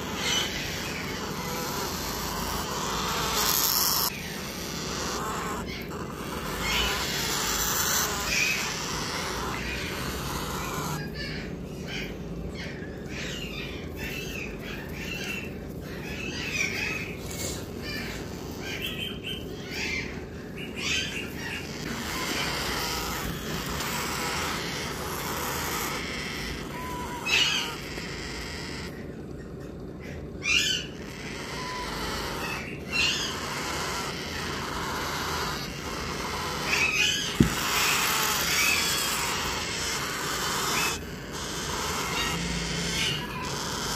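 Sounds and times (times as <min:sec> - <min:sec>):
parrot chicks begging calls: 0:00.0 - 0:43.9.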